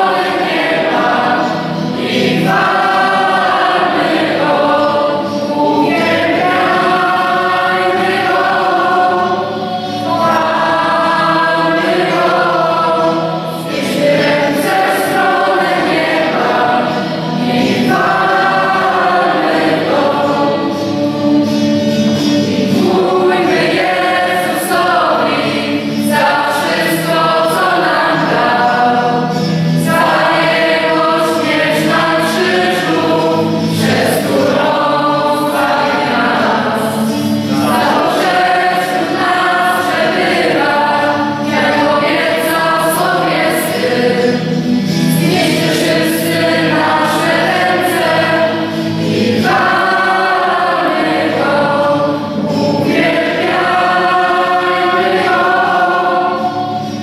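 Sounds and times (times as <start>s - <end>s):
youth choir singing: 0.0s - 57.0s.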